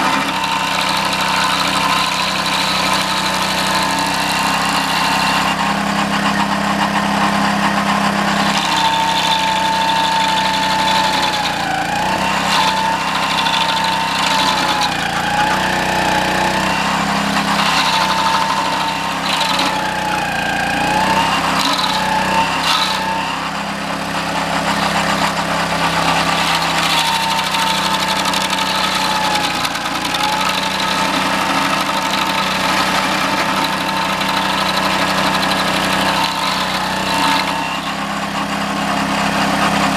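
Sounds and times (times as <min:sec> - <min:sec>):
cutting wheel whine: 0:00.0 - 0:39.9
small engine running: 0:00.0 - 0:39.9.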